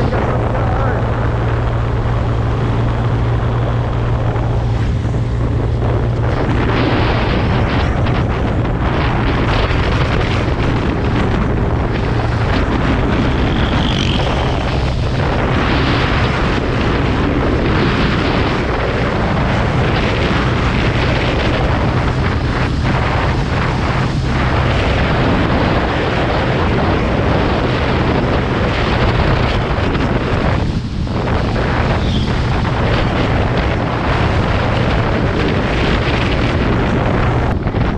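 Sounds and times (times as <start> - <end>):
vehicle engine running: 0.0 - 37.9
wind on microphone: 0.0 - 37.9.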